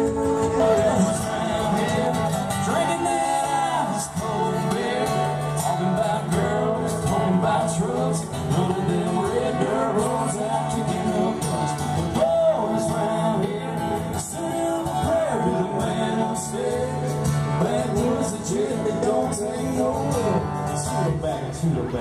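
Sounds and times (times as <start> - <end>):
person singing: 0.0 - 21.4
live country band playing: 0.0 - 22.0.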